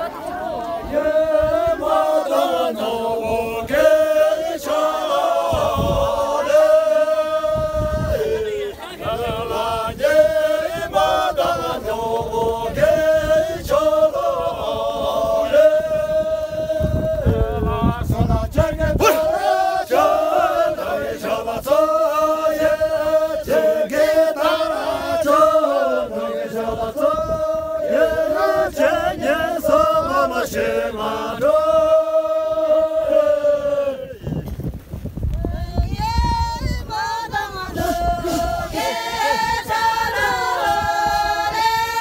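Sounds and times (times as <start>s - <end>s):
group singing in unison: 0.0s - 34.4s, 35.5s - 42.0s
wind rumble on microphone: 0.0s - 42.0s.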